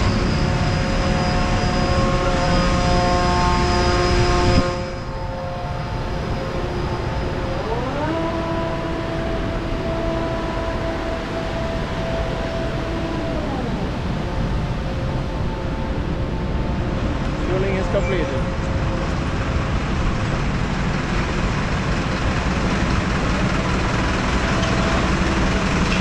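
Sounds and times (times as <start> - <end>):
aircraft and ground equipment rumble: 0.0 - 26.0
machine whine rising in pitch: 0.0 - 26.0.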